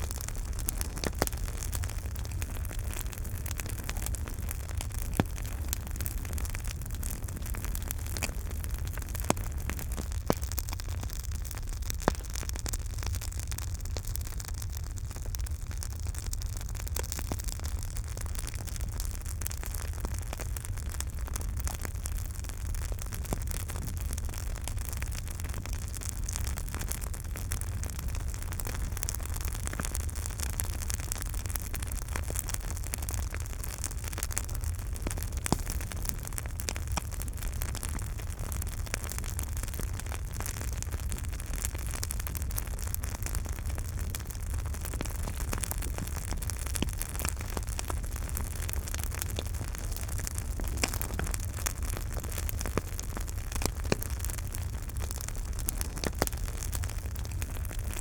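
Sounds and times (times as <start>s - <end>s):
campfire crackling and popping: 0.0s - 58.0s
low rumble and hiss: 0.0s - 58.0s.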